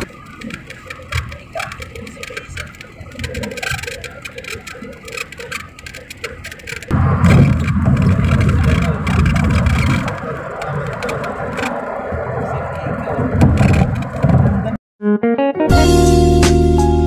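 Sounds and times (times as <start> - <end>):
car road and wind noise: 0.0 - 14.8
heavy low rumble: 0.0 - 14.8.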